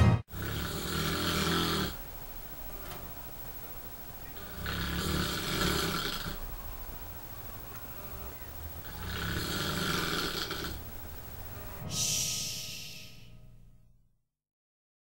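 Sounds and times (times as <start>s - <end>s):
man snoring: 0.3s - 13.3s.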